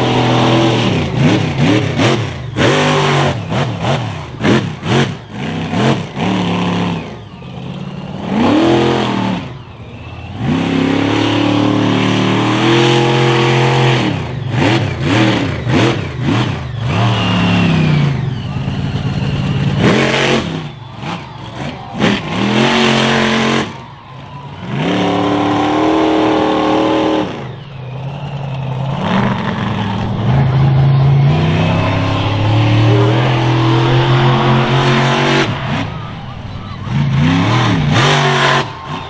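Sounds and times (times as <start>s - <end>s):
monster truck engine revving: 0.0s - 39.0s.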